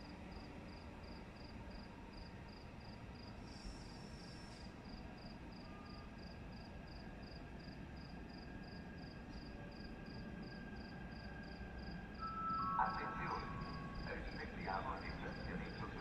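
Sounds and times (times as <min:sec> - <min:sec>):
cricket chirping: 0:00.3 - 0:16.0.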